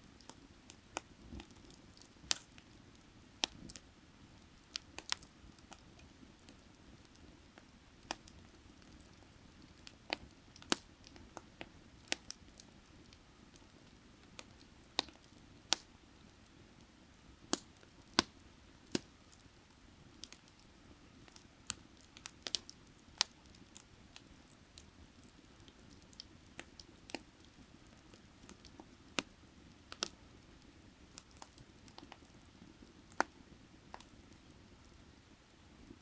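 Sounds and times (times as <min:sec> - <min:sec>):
firewood crackling and popping: 0:00.0 - 0:36.0.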